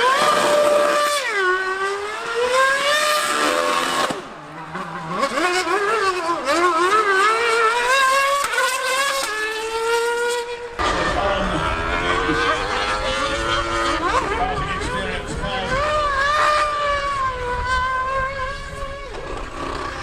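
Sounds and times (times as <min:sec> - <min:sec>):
racing car engine at high revs: 0:00.0 - 0:20.0
superbike engine racing: 0:00.0 - 0:20.0.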